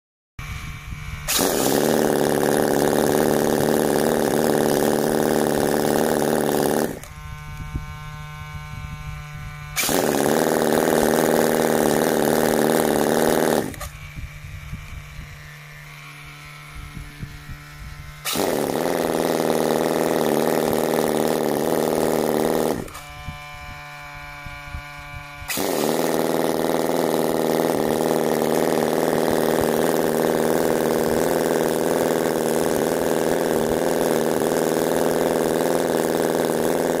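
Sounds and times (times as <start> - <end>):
model engine revving: 0.4 - 37.0.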